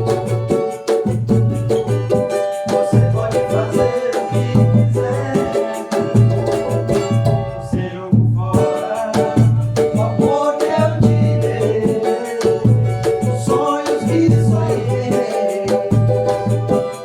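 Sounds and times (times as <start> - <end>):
percussion: 0.0 - 17.0
bass line: 1.2 - 15.2
person singing: 2.7 - 7.0, 7.6 - 17.0.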